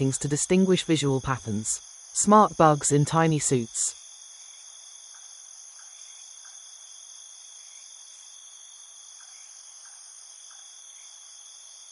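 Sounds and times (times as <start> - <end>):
insect chorus trilling: 0.0 - 11.9.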